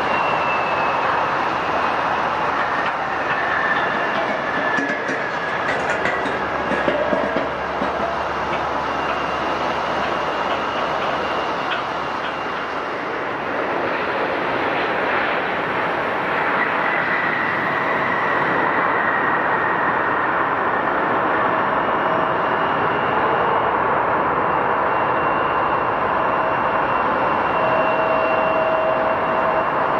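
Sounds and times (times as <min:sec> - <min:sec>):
jet engines roaring and whining: 0:00.0 - 0:29.9.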